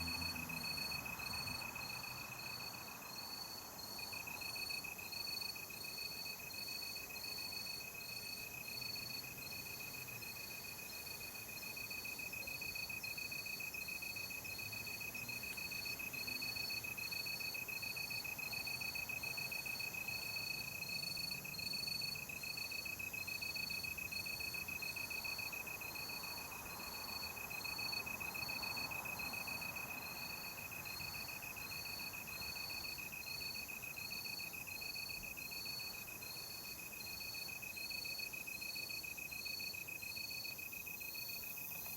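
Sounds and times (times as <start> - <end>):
crickets trilling: 0.0 - 41.9
insect chirping evenly: 0.1 - 41.9.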